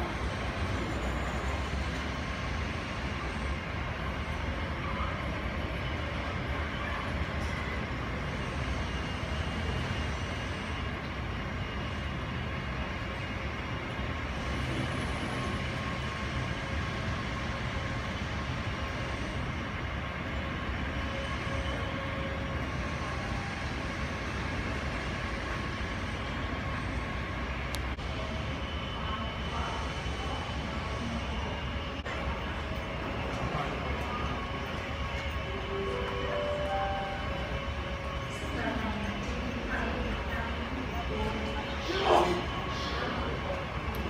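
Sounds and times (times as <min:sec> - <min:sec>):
jet engines idling: 0:00.0 - 0:44.0.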